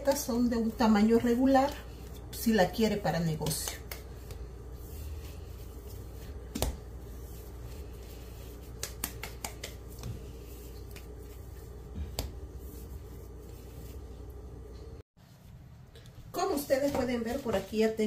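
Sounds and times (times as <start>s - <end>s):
steady low hum: 0.0s - 17.6s
soft pats of dough: 0.0s - 18.0s.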